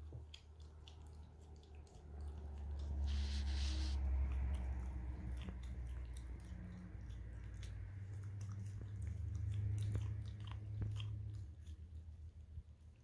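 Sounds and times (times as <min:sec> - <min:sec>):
low steady hum: 0:00.0 - 0:13.0
puppy licking and chewing rubber: 0:00.0 - 0:13.0.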